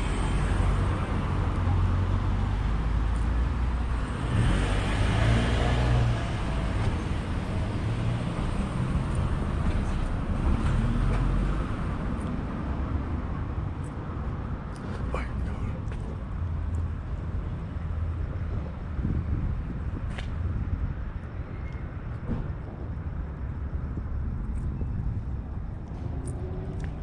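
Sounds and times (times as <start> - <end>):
cars driving past: 0.0 - 27.0
low traffic rumble: 0.0 - 27.0.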